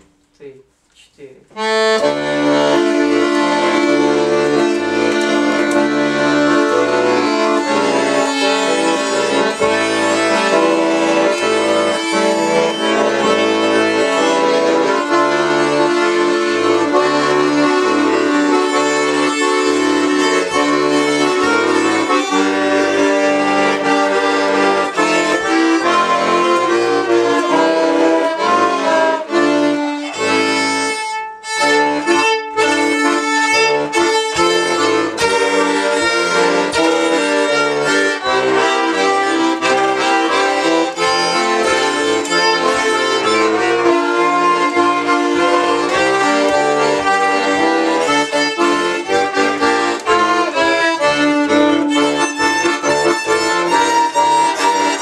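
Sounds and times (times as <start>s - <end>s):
button accordion accompaniment: 1.5s - 55.0s
violin melody: 1.5s - 55.0s.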